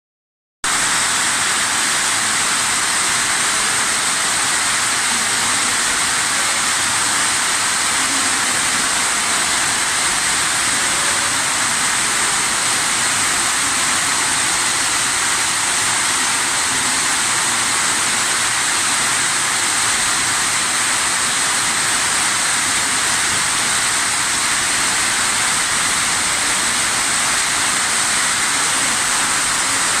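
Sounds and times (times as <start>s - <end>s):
steady hissing rush: 0.7s - 30.0s.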